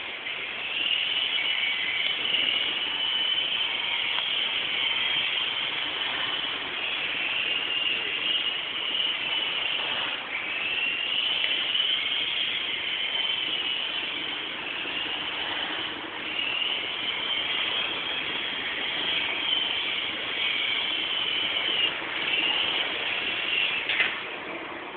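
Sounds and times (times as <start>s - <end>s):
model helicopter rotor whining: 0.0s - 24.6s.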